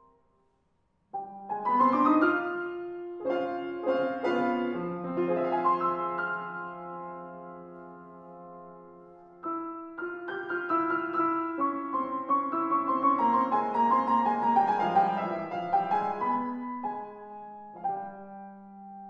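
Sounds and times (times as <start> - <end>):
grand piano solo: 1.1 - 19.0.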